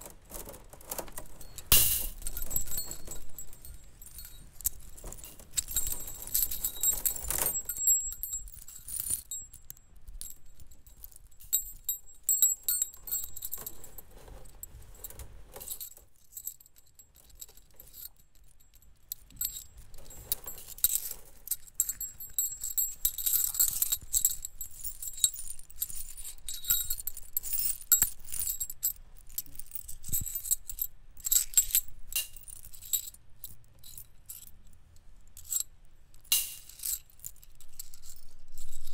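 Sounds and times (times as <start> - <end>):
metal wires jingling and clinking: 0.0 - 34.7, 35.4 - 38.9.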